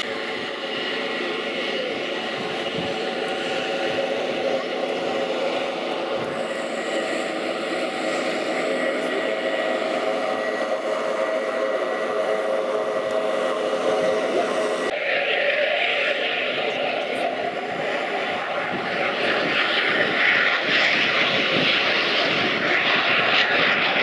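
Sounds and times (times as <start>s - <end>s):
jet engine running with whine: 0.0s - 24.0s.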